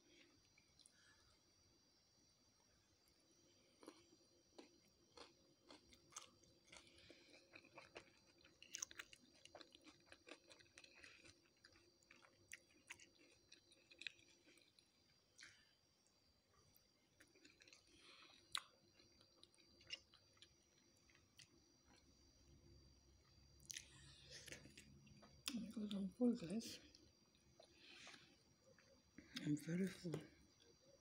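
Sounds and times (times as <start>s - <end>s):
chewing crunchy fried food: 3.3s - 26.2s, 26.8s - 30.8s.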